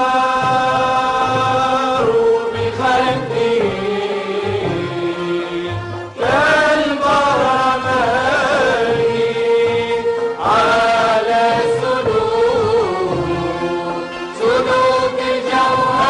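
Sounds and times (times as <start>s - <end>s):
chanted vocal melody: 0.0s - 16.0s
low repeating accompaniment: 0.0s - 16.0s.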